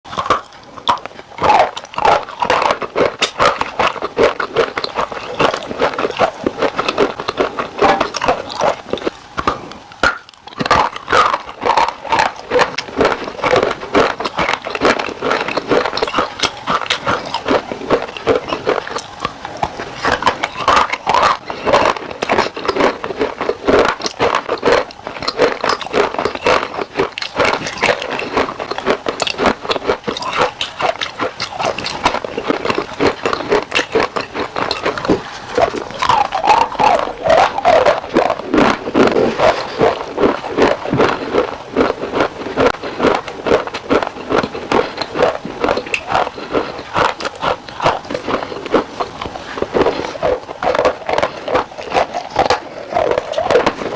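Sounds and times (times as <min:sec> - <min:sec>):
chewing crisp food: 0:00.0 - 0:53.9.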